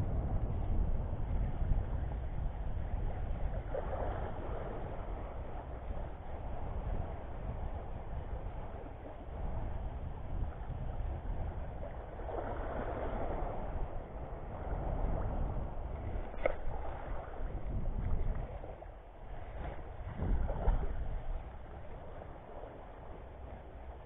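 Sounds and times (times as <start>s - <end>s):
wind rumbling on microphone: 0.0s - 24.0s
shallow sea water washing: 2.9s - 24.0s.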